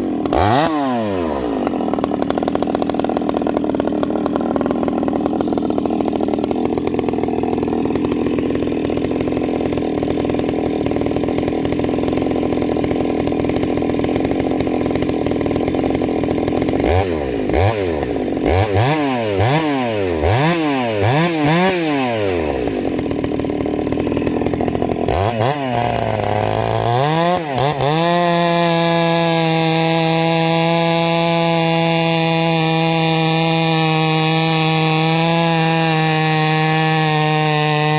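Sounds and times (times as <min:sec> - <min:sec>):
chainsaw running and revving: 0:00.0 - 0:37.9.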